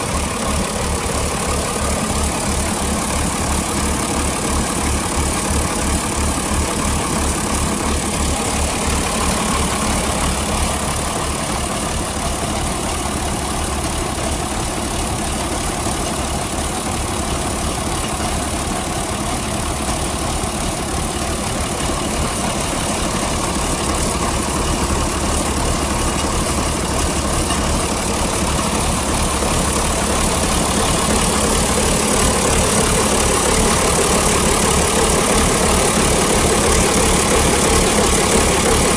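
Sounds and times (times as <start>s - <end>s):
engine running with low beat: 0.0s - 38.9s.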